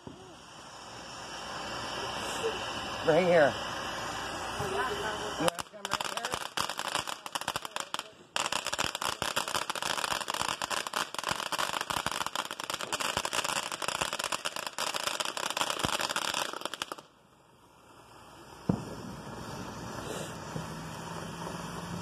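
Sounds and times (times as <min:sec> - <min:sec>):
fireworks fountain crackling: 0:00.0 - 0:22.0.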